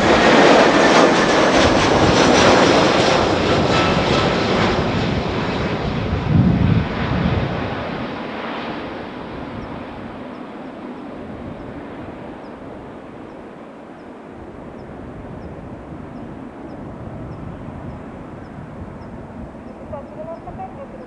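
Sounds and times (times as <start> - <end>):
jet engines passing: 0.0 - 21.0.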